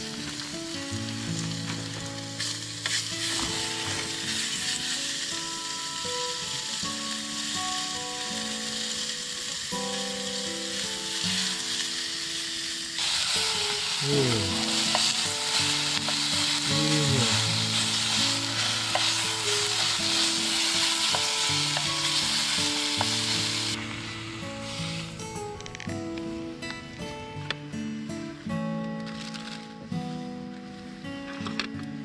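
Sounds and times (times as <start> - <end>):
beef sizzling in a tin: 0.0 - 26.2.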